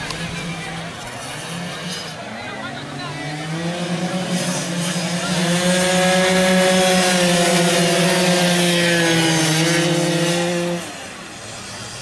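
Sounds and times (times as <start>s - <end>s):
motorcycle engines at high revs: 0.0s - 12.0s.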